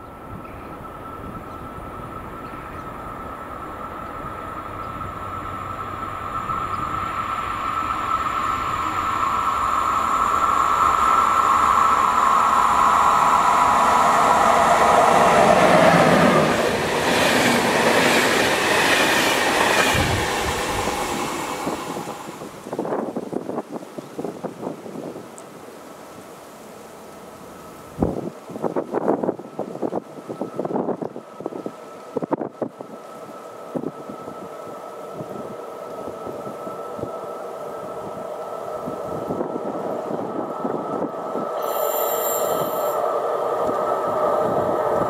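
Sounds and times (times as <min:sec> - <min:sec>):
electric locomotive whine: 0:00.0 - 0:25.2, 0:26.4 - 0:45.0.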